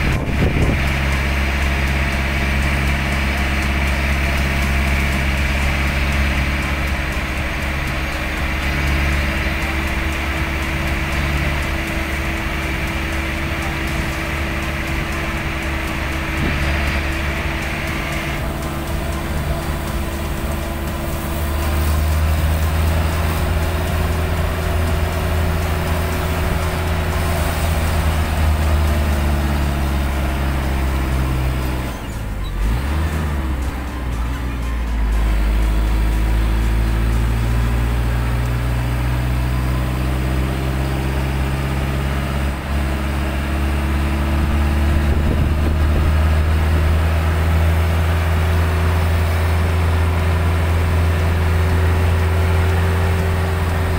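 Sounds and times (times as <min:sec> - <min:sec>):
road noise: 0:00.0 - 0:53.9
vehicle engine droning: 0:00.0 - 0:53.9.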